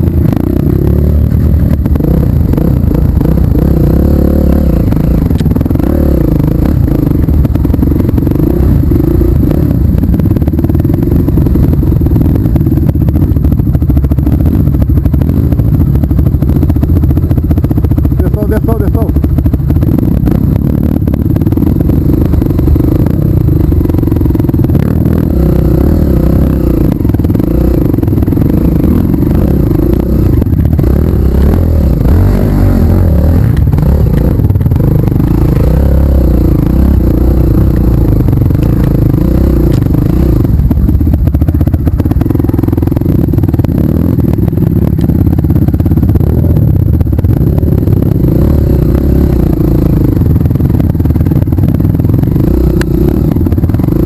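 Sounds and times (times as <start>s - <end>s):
trail motorcycle engine: 0.0s - 54.0s.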